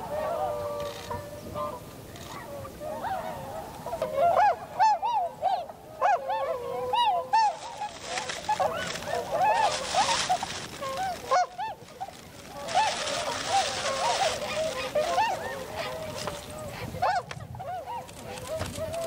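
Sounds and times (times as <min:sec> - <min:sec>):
swans honking: 0:00.0 - 0:19.0.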